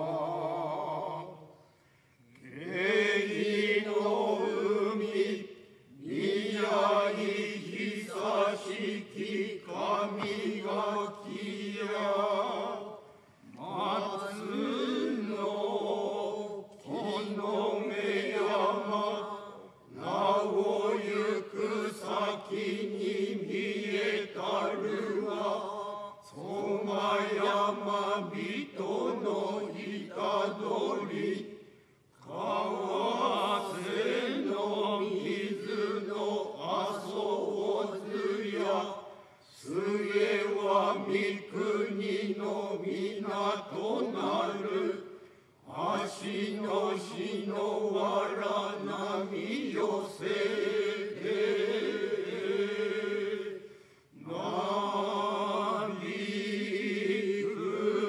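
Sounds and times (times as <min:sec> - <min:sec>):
group chanting in unison: 0:00.0 - 0:01.5, 0:02.4 - 0:58.0.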